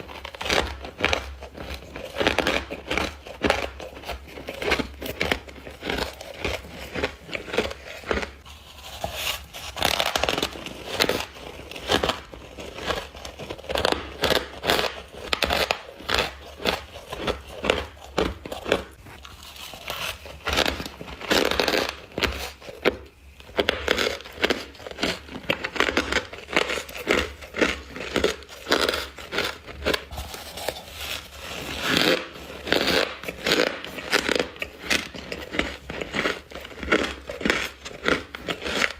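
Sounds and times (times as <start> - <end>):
crunching ice being bitten: 0.0 - 38.9.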